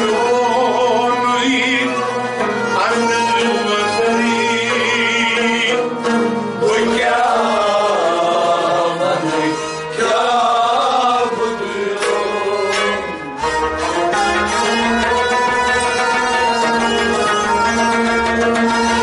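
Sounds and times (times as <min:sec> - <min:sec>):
bowed string instrument: 0:00.0 - 0:19.0
harmonium: 0:00.0 - 0:19.0
person singing: 0:00.0 - 0:19.0
rubab: 0:01.1 - 0:19.0.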